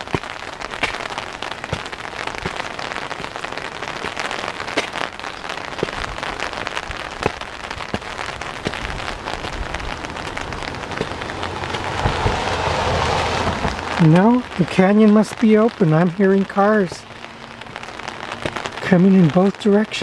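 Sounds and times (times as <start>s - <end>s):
raindrops ticking close by: 0.0s - 20.0s
steady rain: 0.0s - 20.0s.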